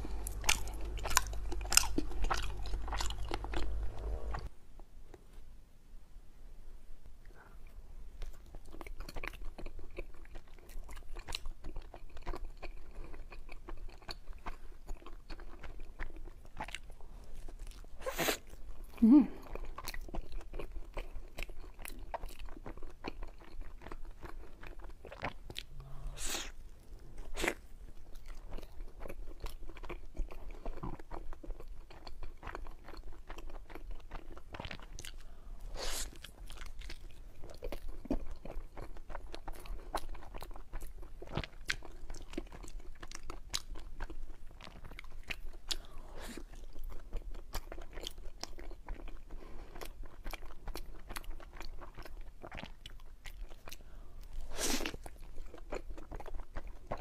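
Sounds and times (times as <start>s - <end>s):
chewing and biting soft cake: 0.0s - 4.5s, 7.7s - 57.0s.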